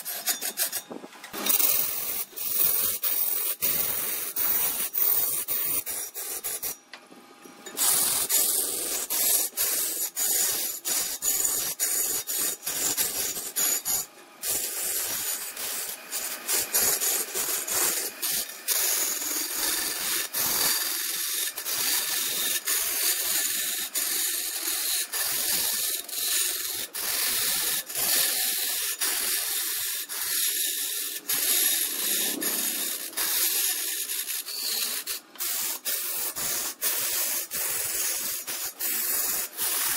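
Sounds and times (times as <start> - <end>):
tool cutting wood on a lathe: 0.0 - 6.9, 7.6 - 39.9.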